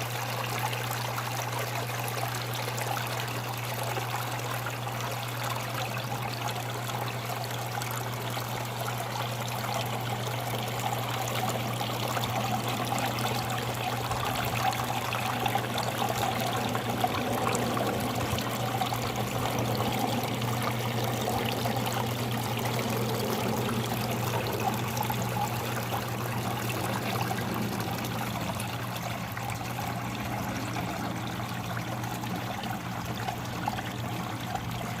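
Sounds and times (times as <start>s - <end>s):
water trickling in a fountain: 0.0s - 35.0s
steady low hum: 2.8s - 35.0s.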